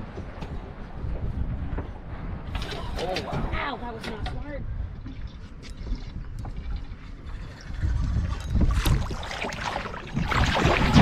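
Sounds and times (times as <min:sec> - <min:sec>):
water splashing and sloshing: 0:00.0 - 0:11.0
wind rumble on microphone: 0:00.0 - 0:11.0.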